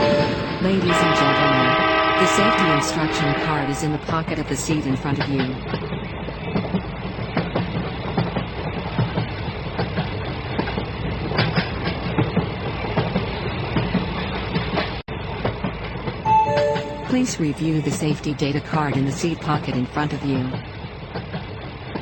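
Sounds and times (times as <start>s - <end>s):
train wheels clattering on rails: 3.9s - 22.0s.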